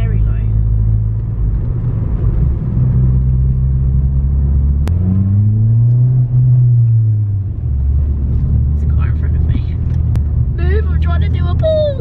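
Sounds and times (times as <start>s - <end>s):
car accelerating: 0.0s - 12.0s
car engine drone from inside cabin: 0.0s - 12.0s.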